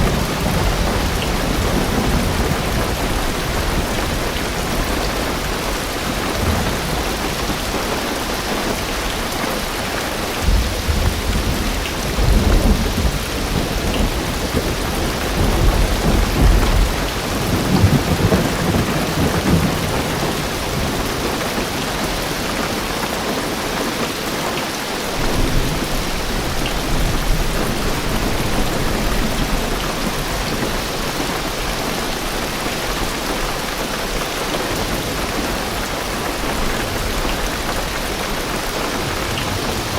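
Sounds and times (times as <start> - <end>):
thunder rumbling: 0.0 - 22.7, 25.2 - 33.2, 34.6 - 39.9
heavy rain drumming on car roof: 0.0 - 39.9.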